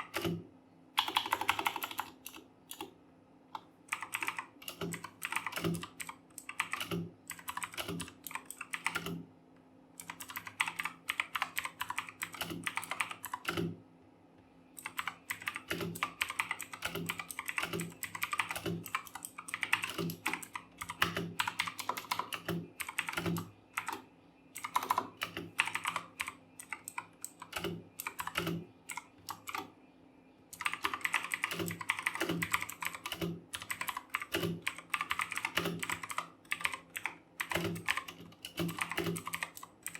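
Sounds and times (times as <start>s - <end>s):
clicky mechanical keyboard typing: 0.0s - 0.4s, 1.0s - 2.9s, 3.6s - 9.2s, 10.0s - 13.7s, 14.8s - 24.0s, 24.6s - 29.7s, 30.5s - 39.9s.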